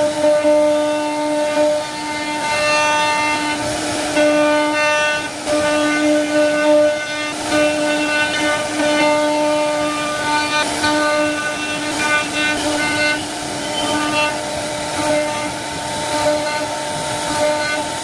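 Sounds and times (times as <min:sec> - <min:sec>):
router whining cutting wood: 0:00.0 - 0:18.0.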